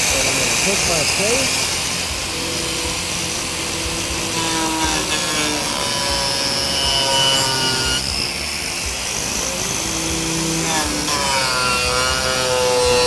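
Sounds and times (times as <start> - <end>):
angle grinder cutting wood: 0.0 - 13.0.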